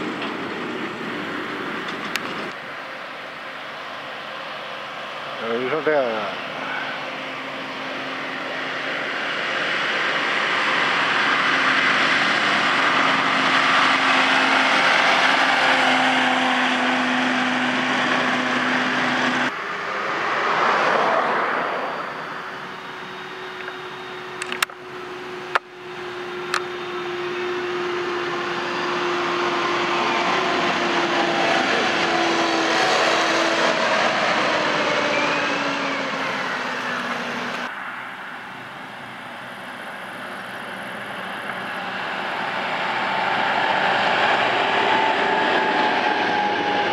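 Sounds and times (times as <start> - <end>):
tractors driving past: 0.0 - 46.9.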